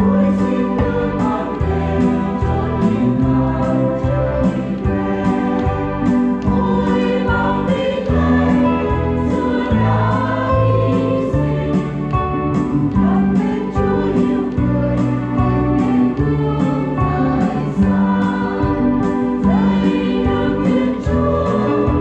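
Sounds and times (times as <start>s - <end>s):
church choir singing a hymn: 0.0s - 22.0s.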